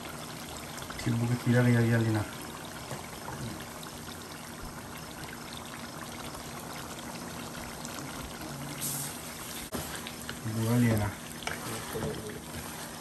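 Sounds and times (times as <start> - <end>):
stew bubbling with steady hiss: 0.0 - 13.0.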